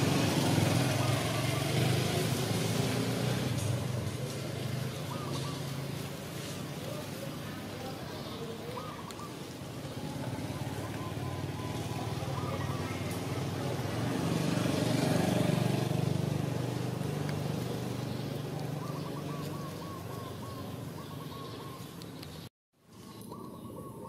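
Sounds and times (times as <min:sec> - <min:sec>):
vehicle engine passing by: 0:00.0 - 0:08.0, 0:09.6 - 0:21.7.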